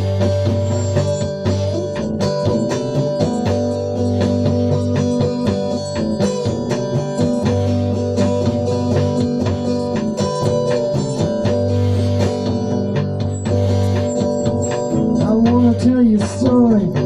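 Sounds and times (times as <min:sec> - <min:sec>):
electric guitar strumming: 0:00.0 - 0:17.0
sustained low notes: 0:00.0 - 0:17.0.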